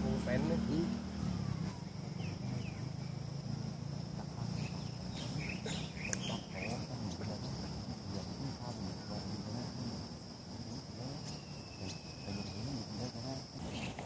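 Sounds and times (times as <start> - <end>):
bird chirps: 0.0 - 9.2, 10.6 - 14.0
insects droning: 0.0 - 14.0.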